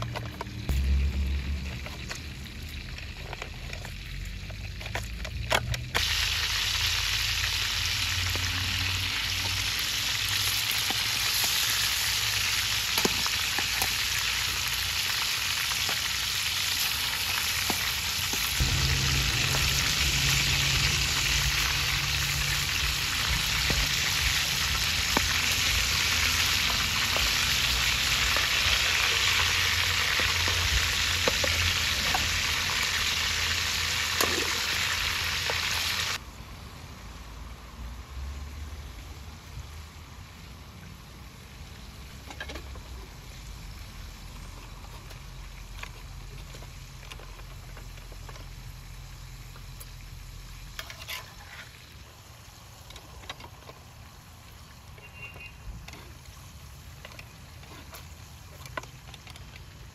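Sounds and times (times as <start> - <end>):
chicken sizzling in hot oil: 0.0 - 36.3, 38.9 - 59.9.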